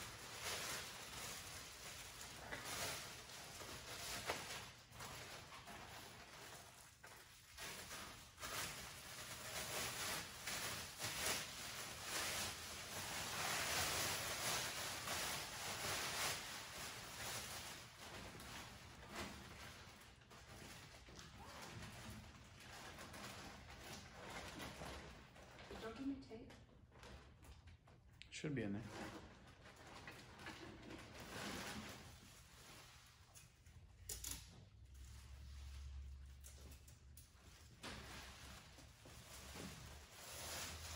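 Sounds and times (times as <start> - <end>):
plastic sheet rustling and crinkling: 0.0 - 27.9, 28.6 - 40.9.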